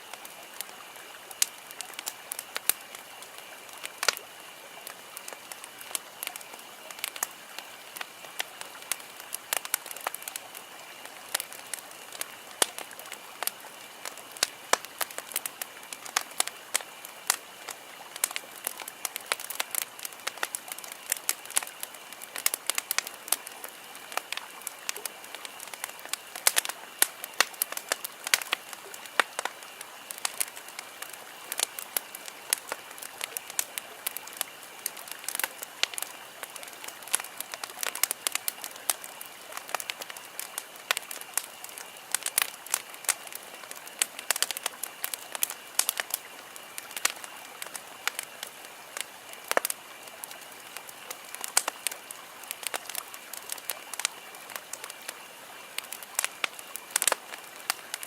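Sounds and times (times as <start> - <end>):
campfire crackling: 0.0 - 58.0
steady hiss: 0.0 - 58.0.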